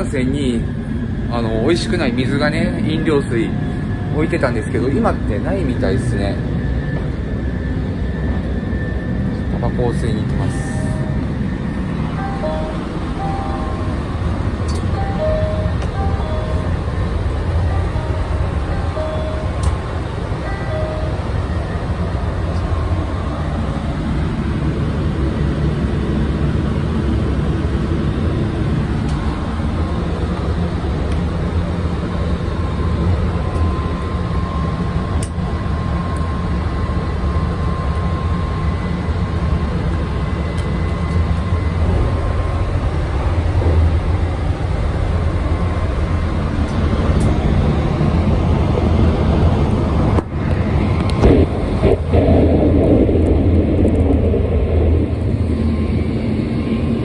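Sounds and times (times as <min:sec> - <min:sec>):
train rumble from inside: 0:00.0 - 0:57.0.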